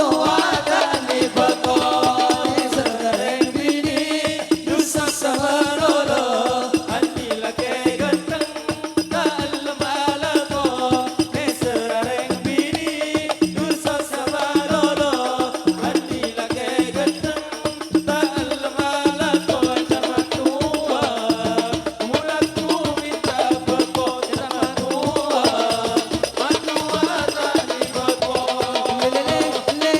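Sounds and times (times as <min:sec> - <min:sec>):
percussion beat: 0:00.0 - 0:29.9.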